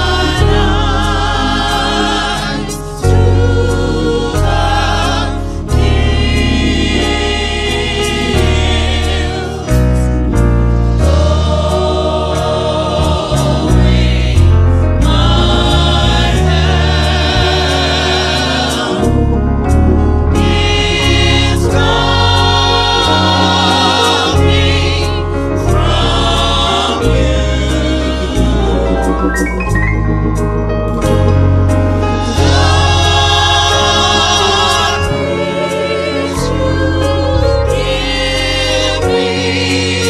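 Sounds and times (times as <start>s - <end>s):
gospel vocal ensemble singing: 0.0s - 30.4s, 31.0s - 40.0s
sustained low accompaniment: 0.0s - 40.0s.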